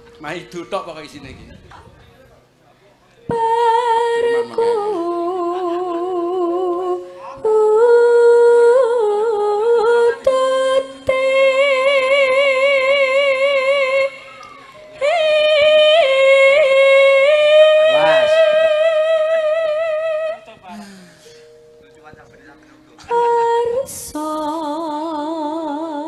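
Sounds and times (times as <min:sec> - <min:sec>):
woman singing with vibrato: 0:03.3 - 0:21.2, 0:23.0 - 0:26.0.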